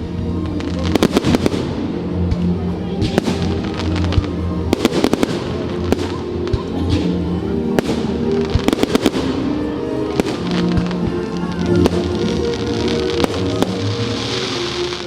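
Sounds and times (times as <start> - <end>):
fireworks bangs and crackles: 0.0 - 15.0
music with held notes: 0.0 - 15.0.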